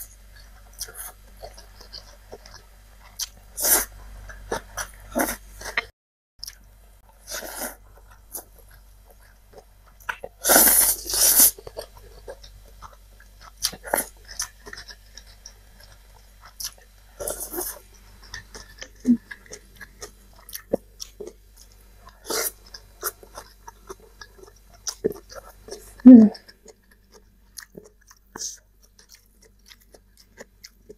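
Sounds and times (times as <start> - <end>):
chewing noodles: 0.3 - 30.9.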